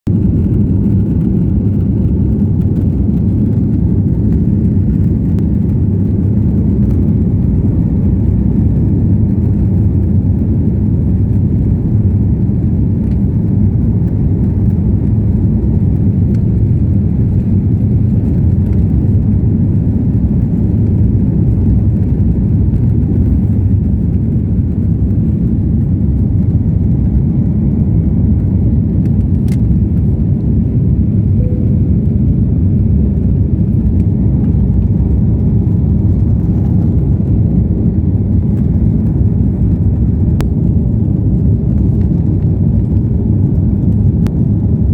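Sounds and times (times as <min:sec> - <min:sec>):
jet engines rumbling on takeoff: 0:00.1 - 0:44.9.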